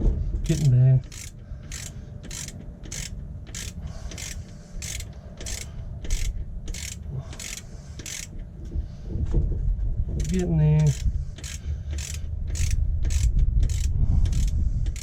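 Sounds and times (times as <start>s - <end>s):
socket ratchet clicking: 0.4s - 8.4s, 10.2s - 15.0s.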